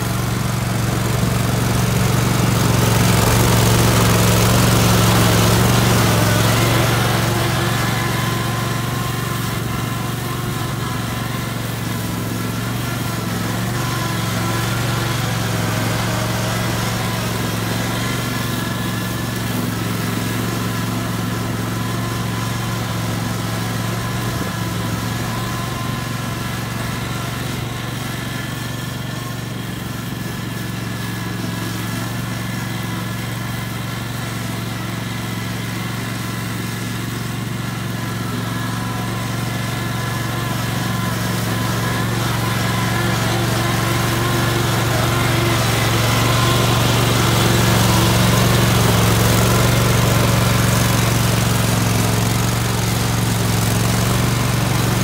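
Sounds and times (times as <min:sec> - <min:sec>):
ride-on lawn tractor engine: 0:00.0 - 0:55.0.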